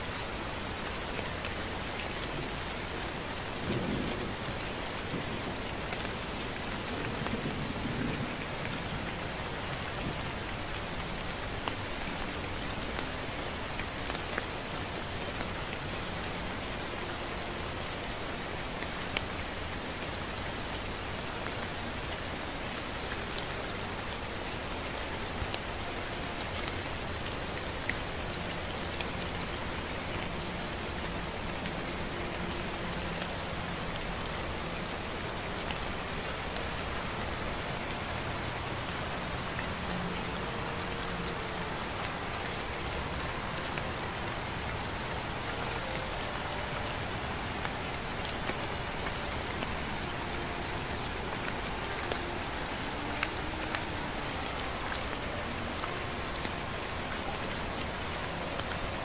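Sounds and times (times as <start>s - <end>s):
gentle steady rain: 0.0s - 59.0s
raindrops ticking: 0.1s - 59.0s.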